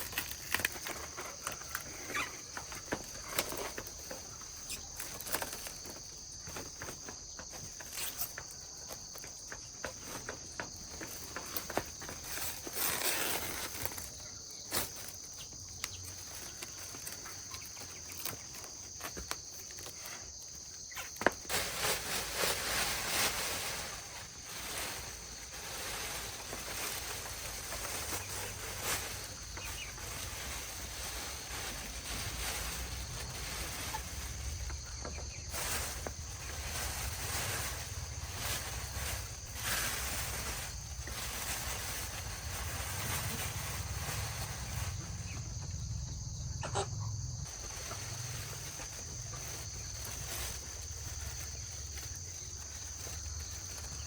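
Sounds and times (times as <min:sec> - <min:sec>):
broad rustling noise: 0:00.0 - 0:45.7, 0:47.4 - 0:54.0
high-pitched insect chorus: 0:00.0 - 0:54.0.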